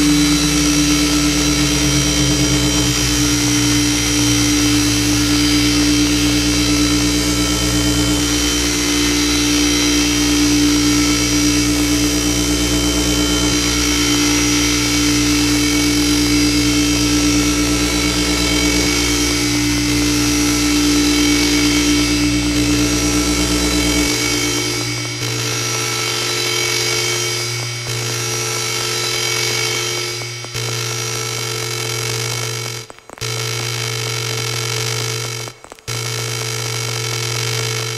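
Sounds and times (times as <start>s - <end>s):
buzzing synth layer: 0.0s - 37.9s
noisy synth drone: 0.0s - 37.9s.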